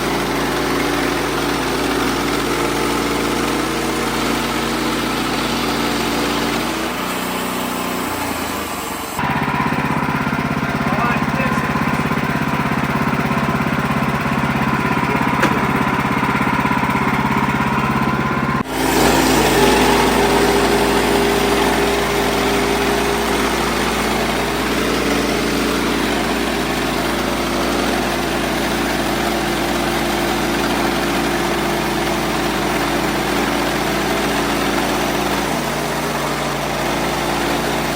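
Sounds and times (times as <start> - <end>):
band sawmill cutting a log: 0.0 - 37.9.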